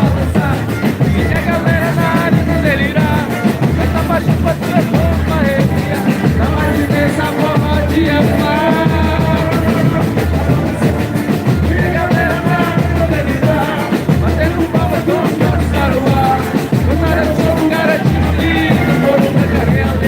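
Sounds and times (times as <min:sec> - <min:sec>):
band with heavy drum beat: 0:00.0 - 0:20.0
person singing: 0:00.0 - 0:20.0.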